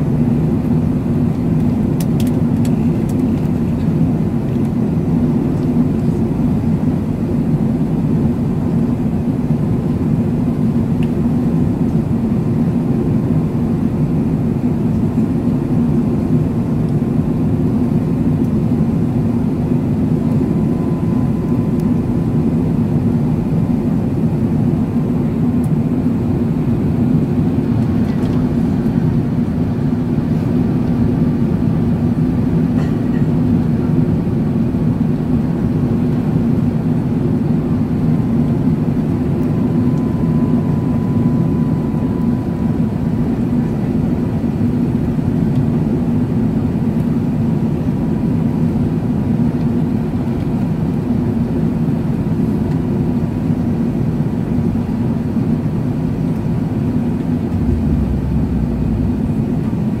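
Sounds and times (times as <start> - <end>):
airplane cabin roar: 0.0 - 60.0
jet engines droning: 0.0 - 60.0.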